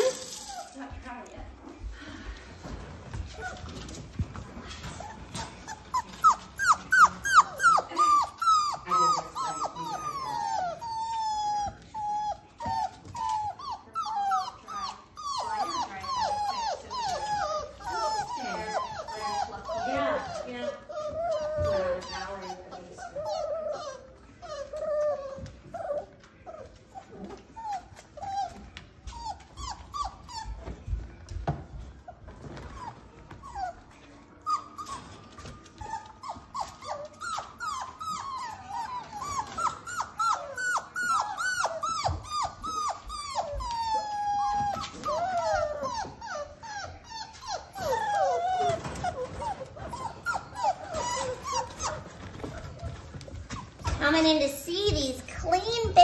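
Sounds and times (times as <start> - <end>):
puppies whining and yipping: 0.0 - 0.8, 3.1 - 54.3.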